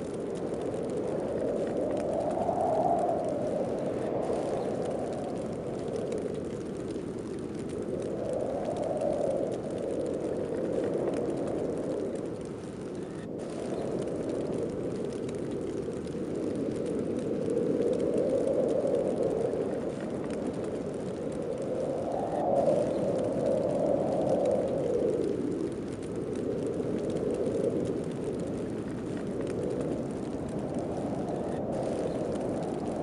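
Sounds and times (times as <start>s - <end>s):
wind blowing in gusts: 0.0s - 33.0s.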